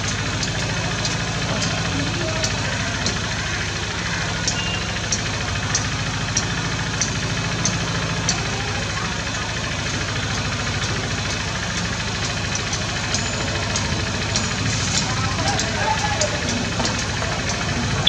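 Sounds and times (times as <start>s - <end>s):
woodpecker tapping: 0.0s - 18.0s.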